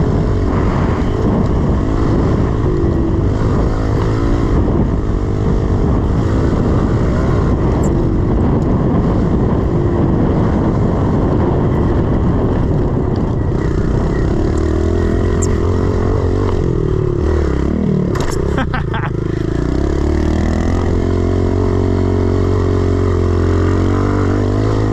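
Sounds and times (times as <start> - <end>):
pit bike engine revving: 0.0 - 24.9.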